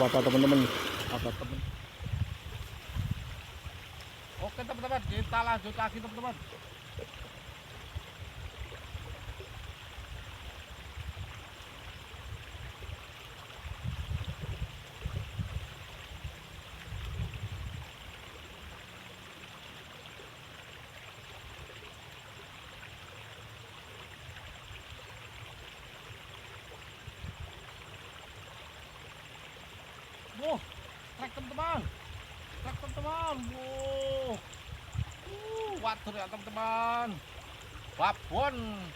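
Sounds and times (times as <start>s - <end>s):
water trickling in ditch: 0.0s - 38.9s.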